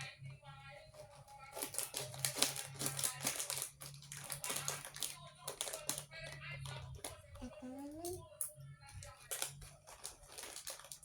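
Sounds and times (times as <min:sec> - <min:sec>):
plastic snack packet crinkling: 0:00.9 - 0:11.0.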